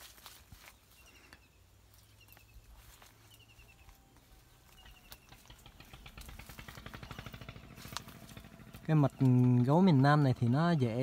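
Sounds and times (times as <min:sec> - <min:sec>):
small bird chirping: 0:00.4 - 0:11.0.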